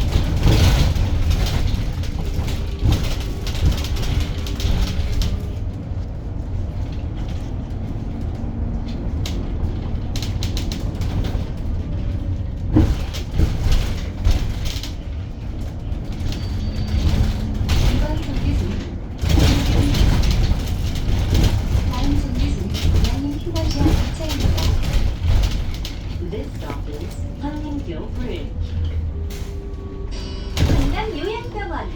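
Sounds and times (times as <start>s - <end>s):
interior panels rattling: 0.0s - 31.9s
road and tyre rumble: 0.0s - 31.9s.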